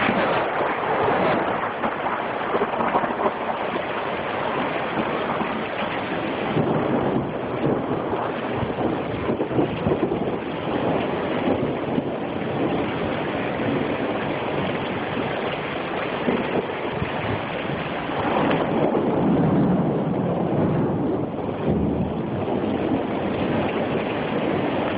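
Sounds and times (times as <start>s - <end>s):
steady rain: 0.0s - 24.9s
thunder rumble: 0.0s - 24.9s
wind: 0.0s - 24.9s
wind buffeting microphone: 0.0s - 24.9s.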